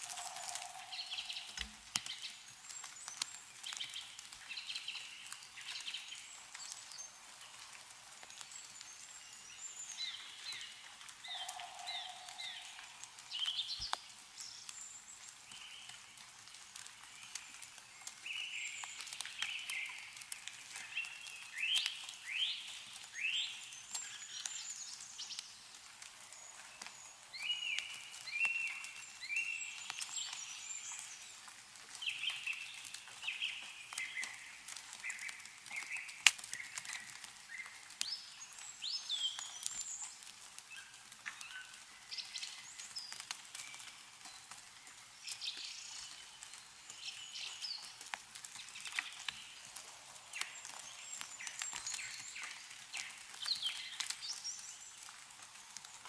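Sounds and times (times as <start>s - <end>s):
melting snow dripping from trees: 0.0s - 56.0s
small birds chirping: 0.0s - 56.0s.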